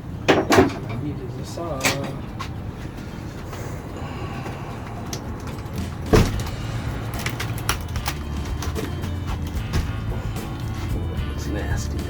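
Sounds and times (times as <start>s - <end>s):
low steady rumble: 2.2s - 12.0s.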